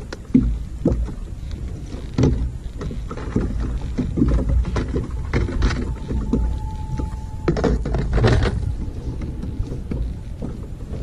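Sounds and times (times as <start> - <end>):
waves slapping against a hull: 0.0 - 11.0
wind rumble on microphone: 0.0 - 11.0.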